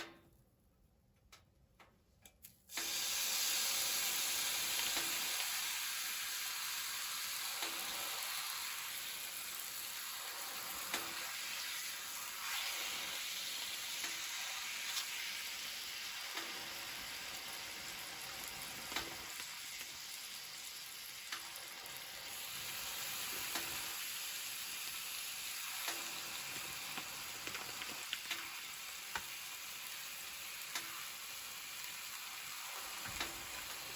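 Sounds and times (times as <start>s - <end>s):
food sizzling in a pan: 2.7s - 33.9s
oil popping and crackling: 2.7s - 33.9s.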